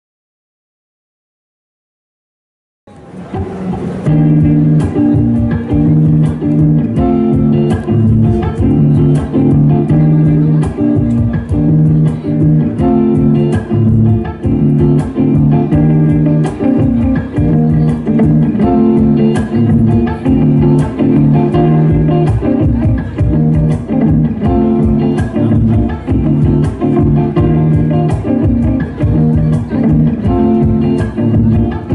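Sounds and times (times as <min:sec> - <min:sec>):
guitar: 0:02.9 - 0:31.9
bass guitar: 0:03.3 - 0:31.9.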